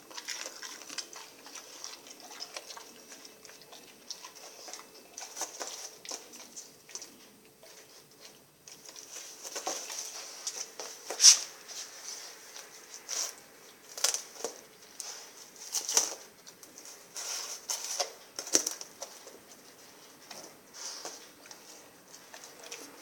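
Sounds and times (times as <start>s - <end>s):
dog chewing and crunching: 0.0s - 23.0s.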